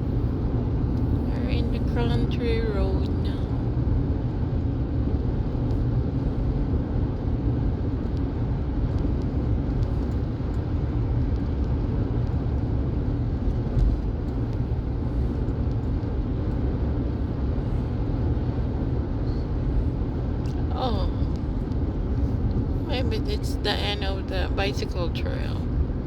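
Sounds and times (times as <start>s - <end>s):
car interior road rumble: 0.0s - 26.0s.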